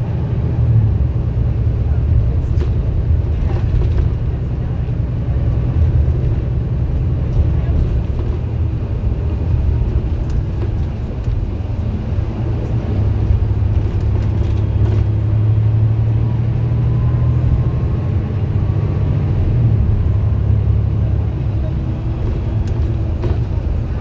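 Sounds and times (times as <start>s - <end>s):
bus engine running: 0.0s - 24.0s.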